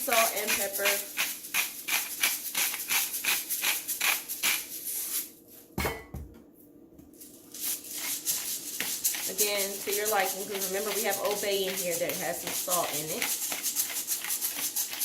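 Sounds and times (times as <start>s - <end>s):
salt shaker rattling: 0.0s - 4.9s, 7.2s - 15.0s.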